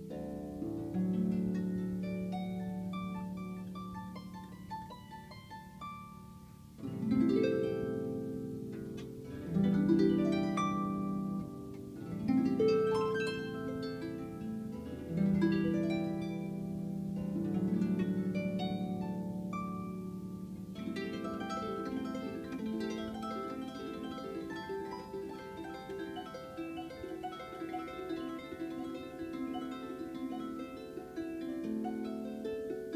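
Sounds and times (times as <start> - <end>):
harp playing: 0.0 - 32.9.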